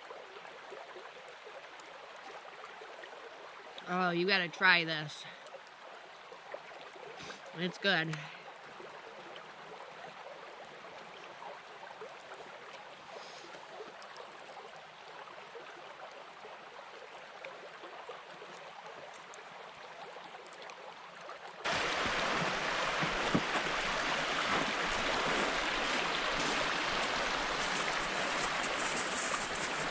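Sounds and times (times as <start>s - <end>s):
creek water flowing: 0.0s - 29.9s.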